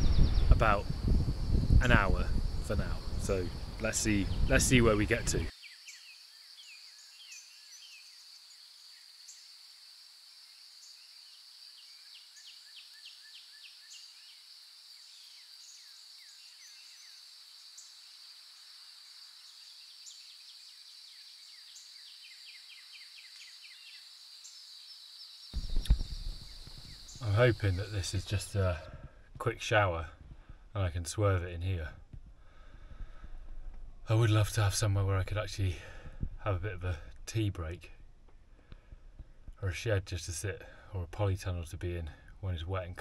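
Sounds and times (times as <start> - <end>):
faint birdsong chirps: 0.0 - 43.0
steady high-pitched hiss: 0.0 - 43.0.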